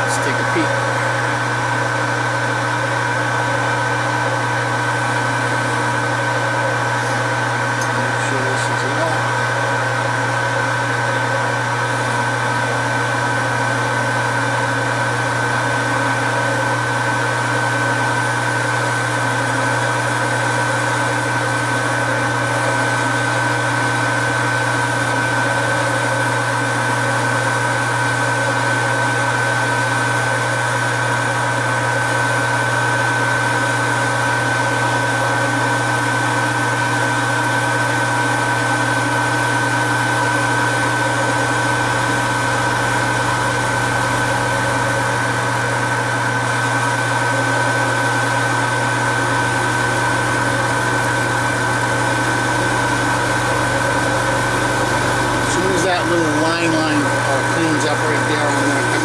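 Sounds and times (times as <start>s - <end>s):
metal lathe running: 0.0s - 59.0s.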